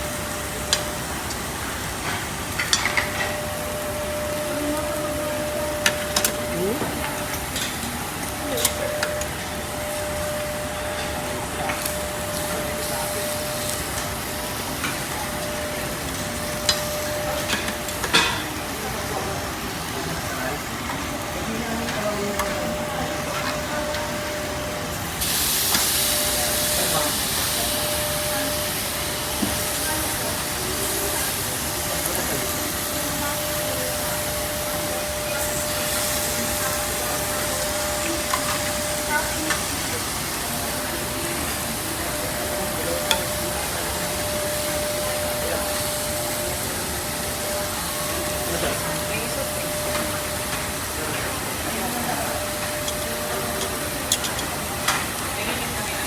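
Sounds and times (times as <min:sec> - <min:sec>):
faint murmur of voices: 0:00.0 - 0:56.0
meat sizzling on a grill: 0:00.0 - 0:56.0.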